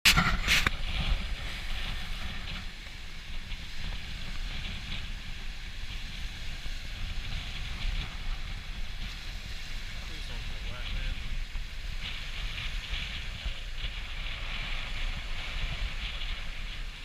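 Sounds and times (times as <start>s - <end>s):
wind gusting over microphone: 0.0s - 17.0s
waves splashing: 0.1s - 17.0s.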